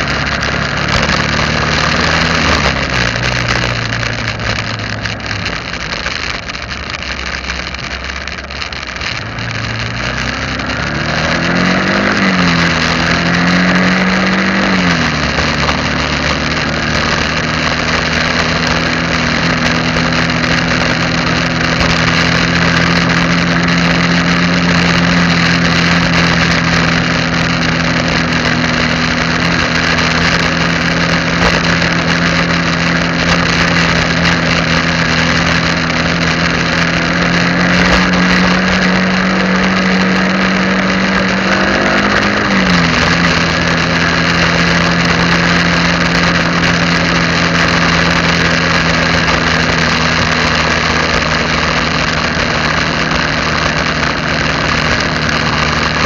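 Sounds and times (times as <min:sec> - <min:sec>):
vehicle engine running: 0:00.0 - 0:56.0
wind and road noise: 0:00.0 - 0:56.0.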